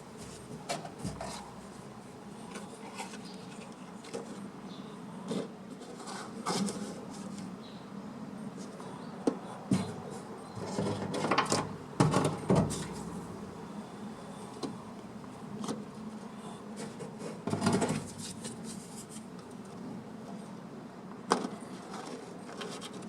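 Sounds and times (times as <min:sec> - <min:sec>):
rustling and scraping: 0:00.0 - 0:04.5, 0:05.2 - 0:07.6, 0:09.7 - 0:20.5, 0:21.4 - 0:23.0.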